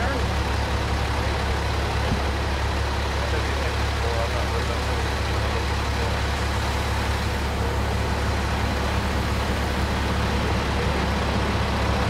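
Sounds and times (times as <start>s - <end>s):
truck engine rumbling: 0.0s - 12.0s
tyres on wet road: 0.0s - 12.0s.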